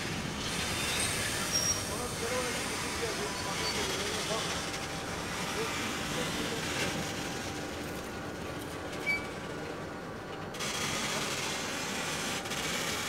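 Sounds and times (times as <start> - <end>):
train wagons rumbling on rails: 0.0 - 10.6.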